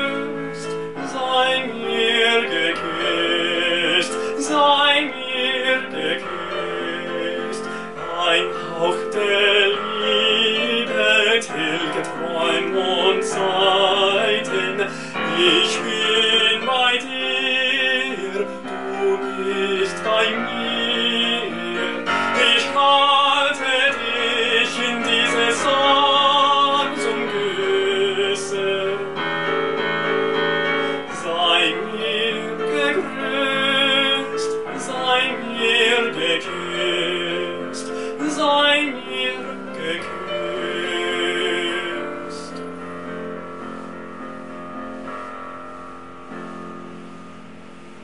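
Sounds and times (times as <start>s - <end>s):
man singing classical: 0.0s - 43.3s
piano accompaniment: 0.0s - 48.0s.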